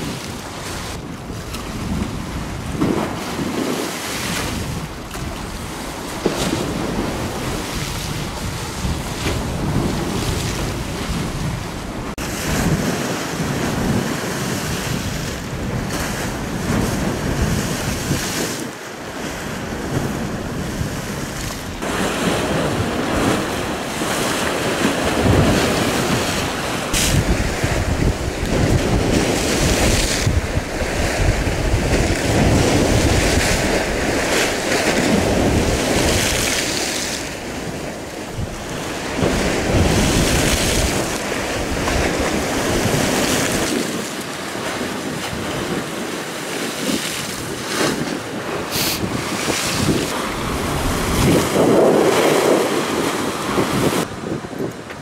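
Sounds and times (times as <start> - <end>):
sea waves breaking against wall: 0.0 - 55.0
wind buffeting microphone: 0.0 - 55.0.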